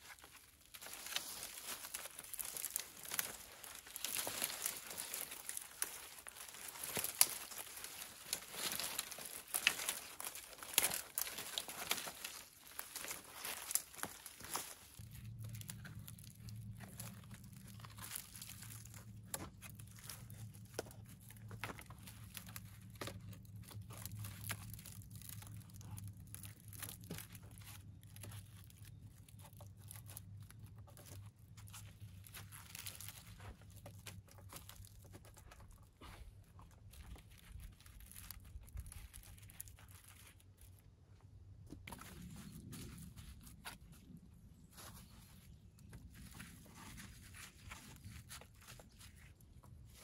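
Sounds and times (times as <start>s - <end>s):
rope rustling and scraping: 0.0s - 50.0s.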